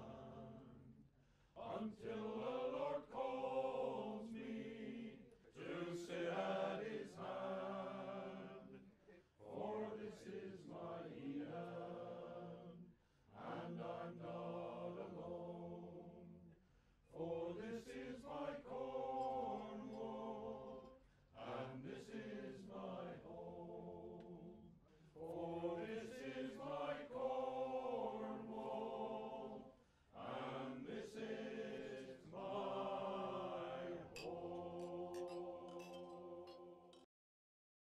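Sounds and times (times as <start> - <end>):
voices chanting together: 0.0 - 37.1.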